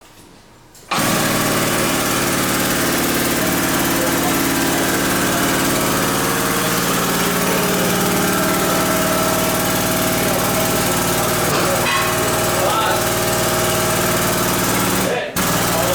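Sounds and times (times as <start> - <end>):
scooter engine idling: 0.9 - 15.9.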